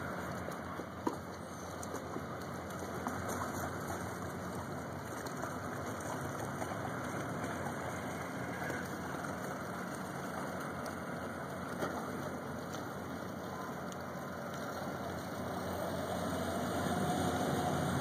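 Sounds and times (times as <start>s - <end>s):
ship diesel engines droning: 0.0s - 18.0s.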